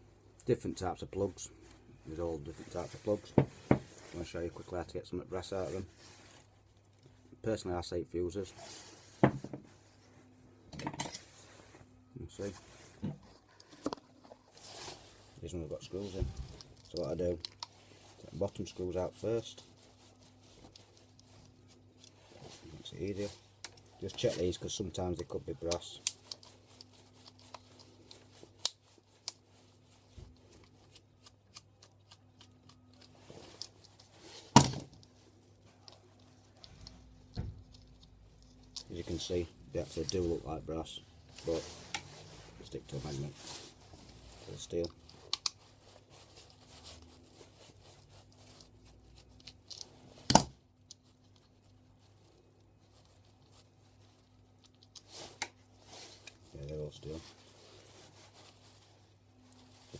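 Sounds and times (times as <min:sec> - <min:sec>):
small parts rustling: 0:10.7 - 0:59.9.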